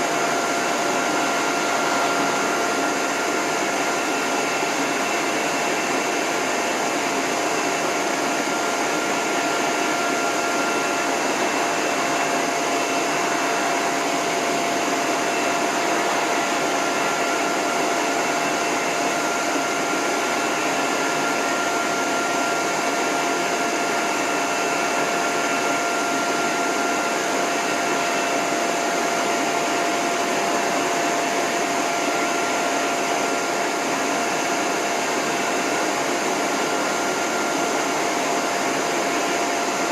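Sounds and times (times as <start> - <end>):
hose dryer blowing air: 0.0 - 39.9.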